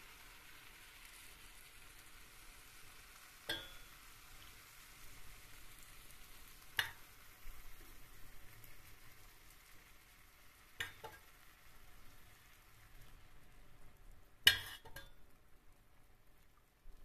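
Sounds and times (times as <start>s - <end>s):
syrup sizzling on hot pastries: 0.0s - 17.0s.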